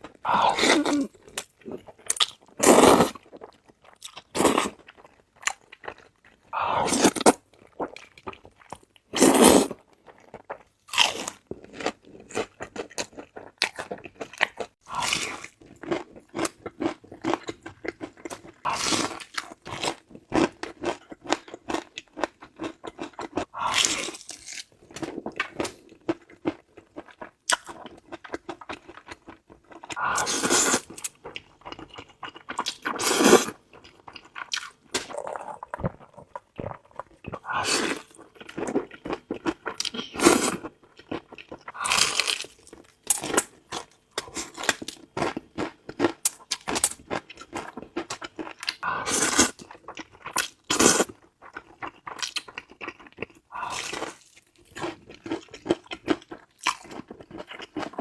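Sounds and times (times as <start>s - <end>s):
crunchy bites of fried chicken: 0.2s - 58.0s.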